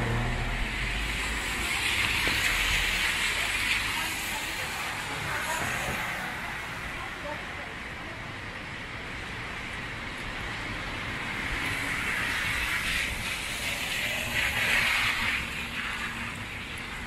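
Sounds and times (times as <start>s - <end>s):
hiss of wet street: 0.0s - 17.0s.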